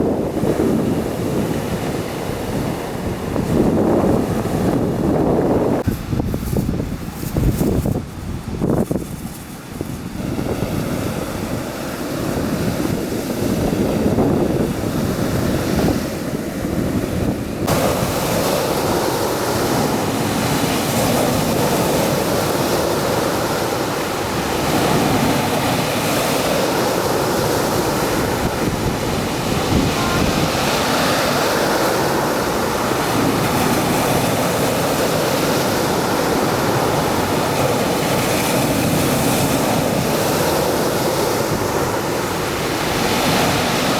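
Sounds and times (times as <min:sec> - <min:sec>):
sea surf washing onto beach: 0:00.0 - 0:43.9
wind buffeting microphone: 0:00.0 - 0:43.9.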